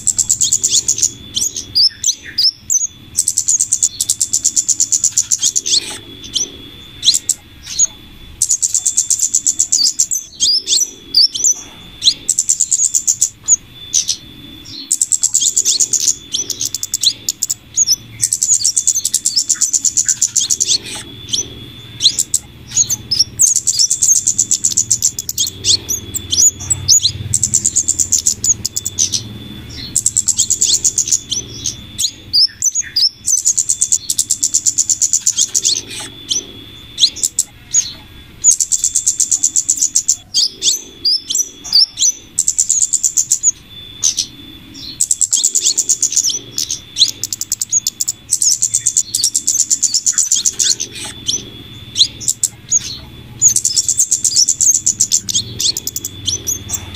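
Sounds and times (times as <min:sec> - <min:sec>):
faint low hum: 0:00.0 - 0:56.9
songbirds trilling: 0:00.0 - 0:56.9.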